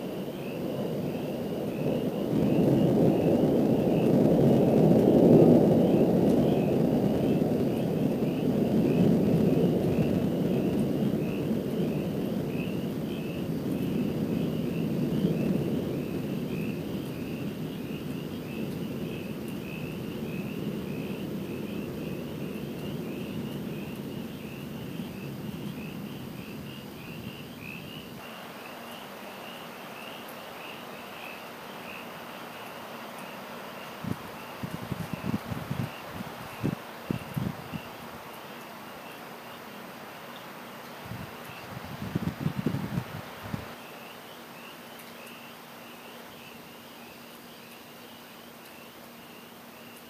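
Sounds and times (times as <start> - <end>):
distant thunder rumbling: 0.0 - 50.0.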